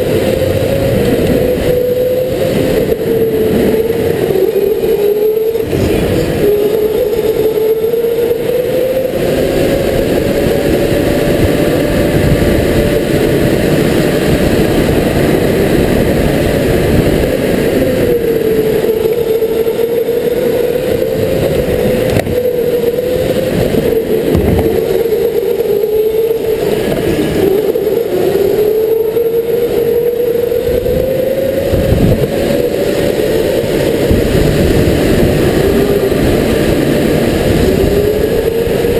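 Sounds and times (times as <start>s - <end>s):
electric motor whining: 0.0s - 38.9s
kart rumbling on track: 0.0s - 38.9s.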